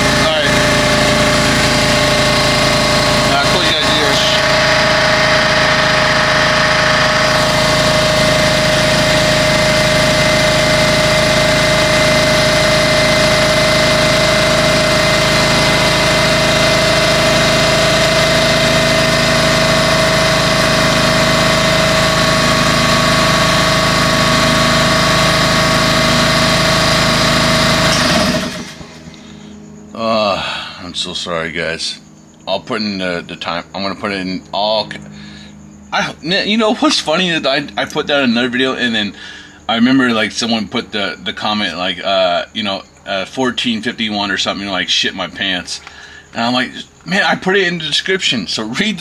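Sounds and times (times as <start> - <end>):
compressor running: 0.0 - 49.0.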